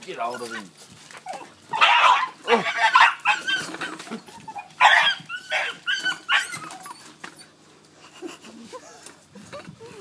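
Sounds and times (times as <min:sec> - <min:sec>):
puppies barking and yapping: 0:00.0 - 0:10.0.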